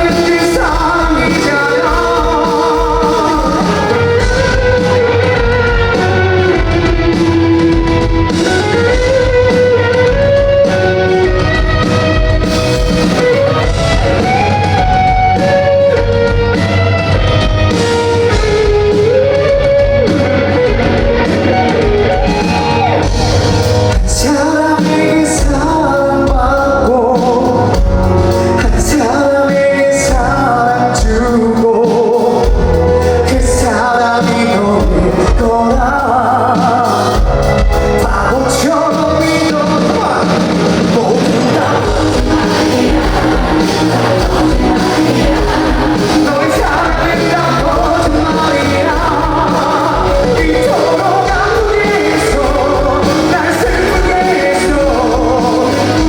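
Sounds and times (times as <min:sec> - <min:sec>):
live pop-rock band: 0:00.0 - 0:56.0
man singing: 0:00.0 - 0:56.0.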